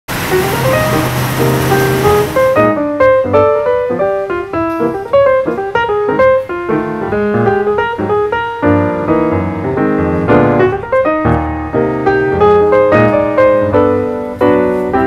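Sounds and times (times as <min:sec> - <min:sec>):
piano playing quick notes: 0:00.1 - 0:15.0.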